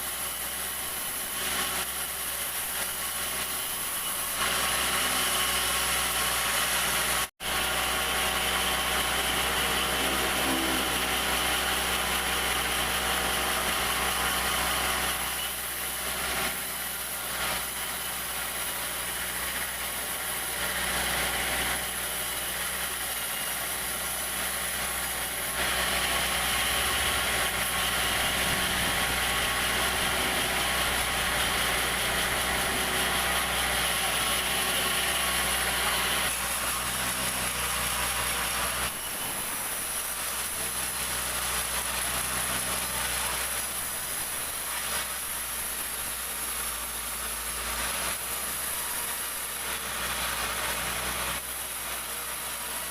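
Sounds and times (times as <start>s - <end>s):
sawmill machinery humming and hissing: 0.0s - 52.9s.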